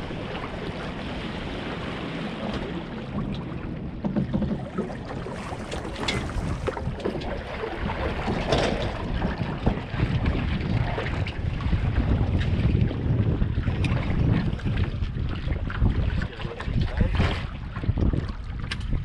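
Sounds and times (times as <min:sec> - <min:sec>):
water rushing along hull: 0:00.0 - 0:19.0
wind on microphone: 0:00.0 - 0:19.0.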